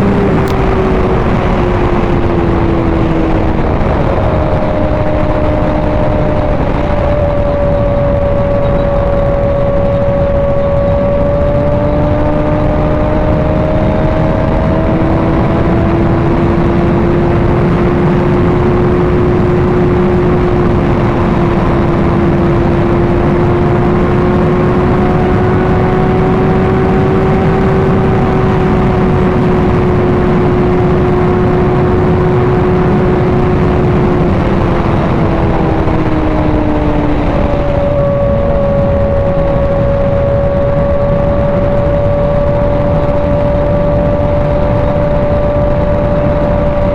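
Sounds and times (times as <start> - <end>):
motorcycle engine cruising: 0.0 - 46.9
wind rush on microphone: 0.0 - 46.9.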